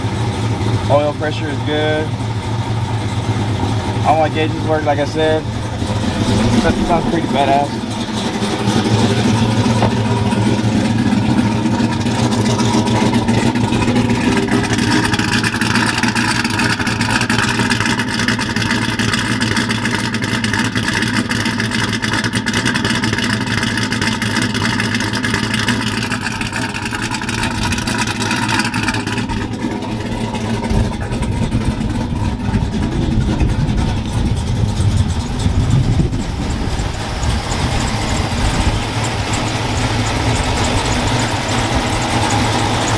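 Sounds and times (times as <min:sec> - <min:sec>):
truck engine idling loudly: 0:00.0 - 0:42.9.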